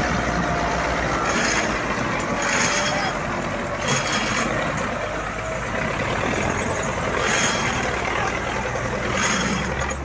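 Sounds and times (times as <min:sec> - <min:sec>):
diesel tractor engines running: 0:00.0 - 0:10.0.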